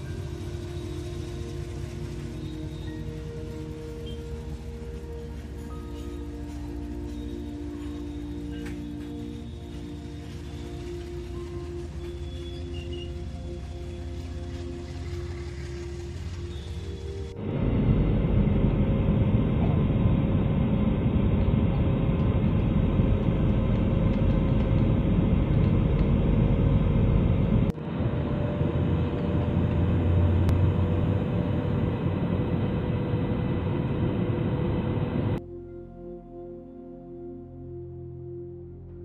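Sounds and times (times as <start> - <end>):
faint steady hums: 0.0 - 35.4
jet cabin engine rumble: 0.0 - 35.4.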